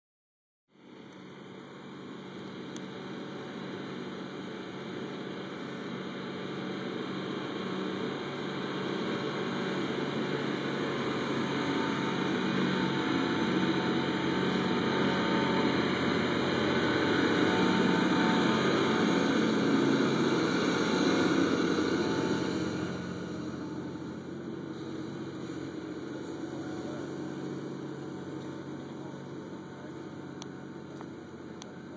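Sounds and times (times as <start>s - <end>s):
diesel truck engine passing by: 1.7s - 31.9s.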